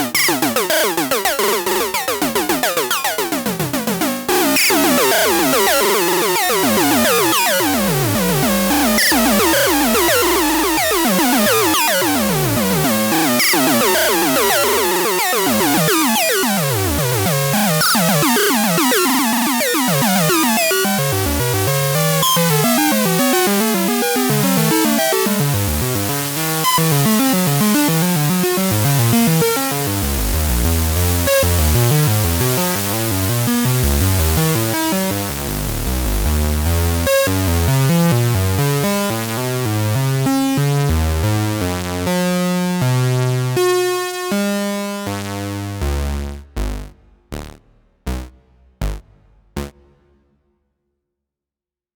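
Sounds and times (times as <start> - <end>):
synthesizer sequenced notes: 0.0 - 37.5, 43.0 - 50.0.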